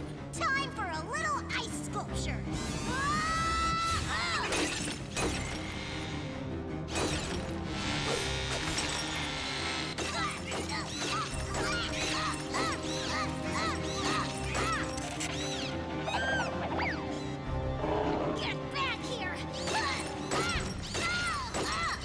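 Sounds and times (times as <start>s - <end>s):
cartoon action music: 0.0s - 22.0s.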